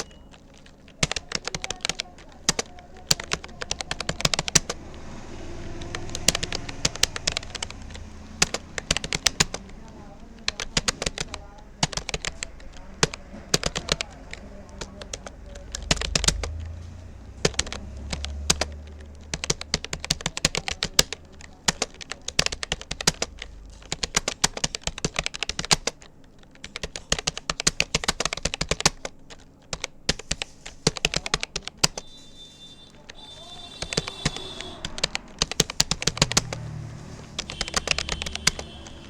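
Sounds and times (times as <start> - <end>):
keyboard typing clicks: 0.0 - 39.0.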